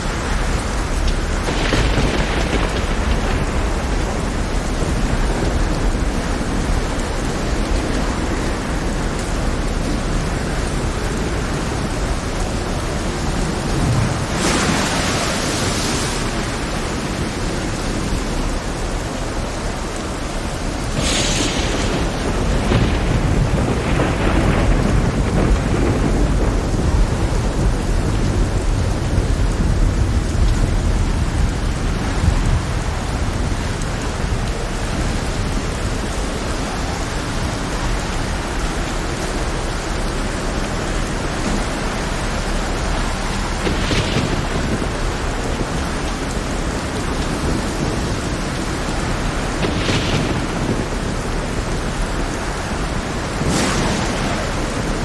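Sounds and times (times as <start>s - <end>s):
heavy rain on the sea: 0.0s - 55.0s
thunder rumbling: 0.0s - 55.0s.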